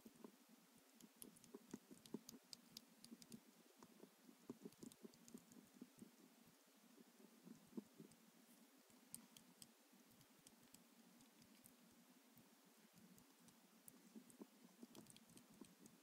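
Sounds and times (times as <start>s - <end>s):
faint small clicks and ticks: 0.0s - 6.3s, 7.0s - 16.0s.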